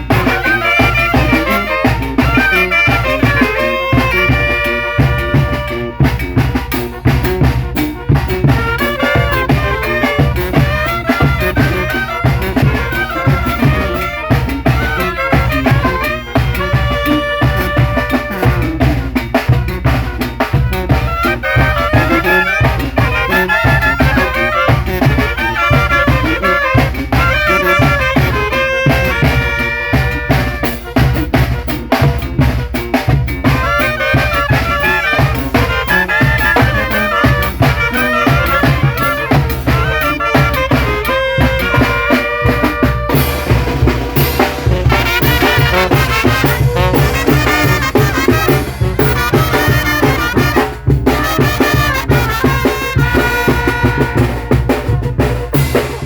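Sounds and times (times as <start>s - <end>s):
bass drum and snare beat: 0.0s - 56.0s
brass band playing: 0.0s - 56.0s.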